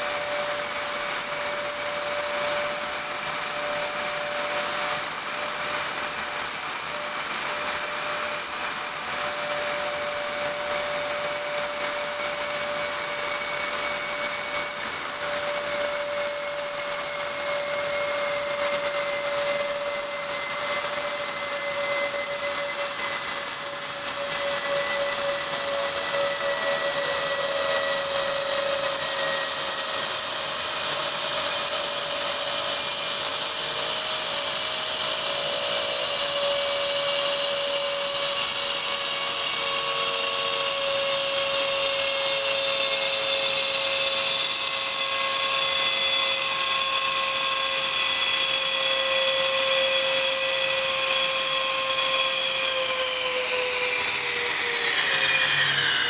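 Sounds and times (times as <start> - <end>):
air whistling in station: 0.0 - 56.0.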